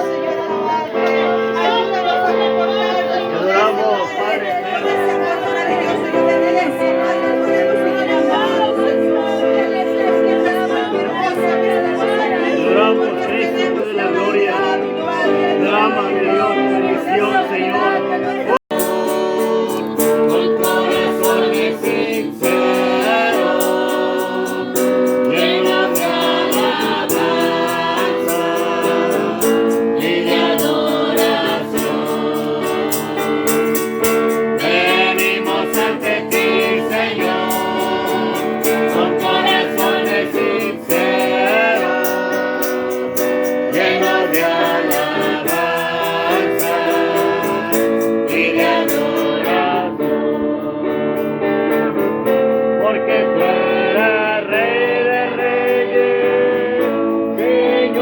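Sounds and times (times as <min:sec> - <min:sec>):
strummed guitar: 0:00.0 - 0:58.0
voices singing worship song: 0:00.0 - 0:58.0.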